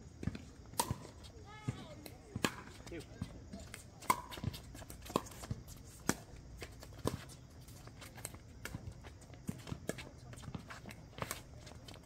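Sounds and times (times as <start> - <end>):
shuffling footsteps on hard court: 0.0 - 12.0.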